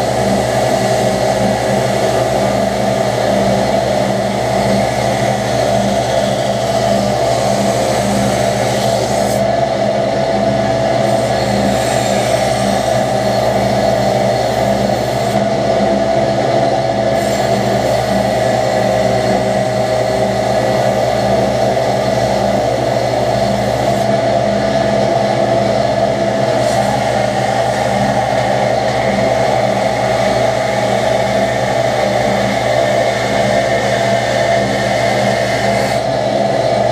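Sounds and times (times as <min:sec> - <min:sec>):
steel hissing on grinder belt: 0:00.0 - 0:09.6, 0:10.8 - 0:15.5, 0:17.1 - 0:24.1, 0:25.9 - 0:36.9
belt grinder motor hum: 0:00.0 - 0:24.8, 0:25.5 - 0:36.9.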